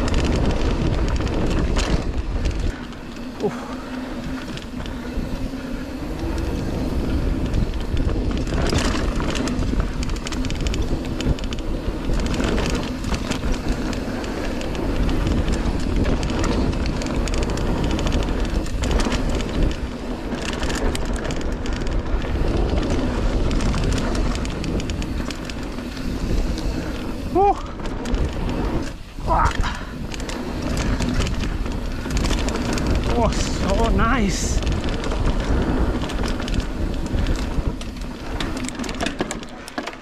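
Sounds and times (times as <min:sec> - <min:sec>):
bike rattling over bumps: 0:00.0 - 0:40.0
tyres rumbling on dirt: 0:00.0 - 0:40.0
wind on microphone: 0:00.0 - 0:40.0.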